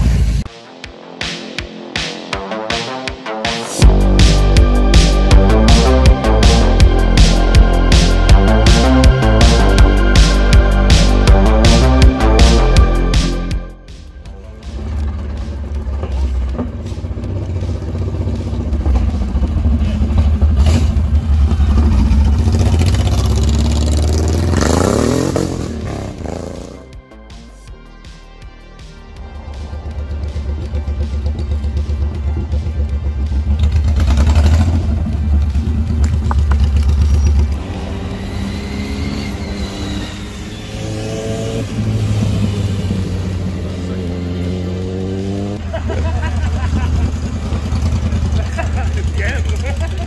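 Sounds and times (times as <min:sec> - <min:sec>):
motorcycle engine rumbling and revving: 0:03.8 - 0:27.6, 0:29.2 - 0:50.0.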